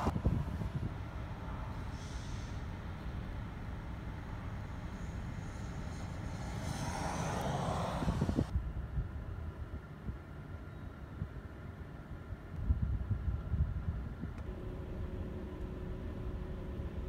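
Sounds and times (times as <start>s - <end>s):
highway traffic rumble: 0.0s - 17.0s
truck engine and tyre noise: 0.0s - 17.0s.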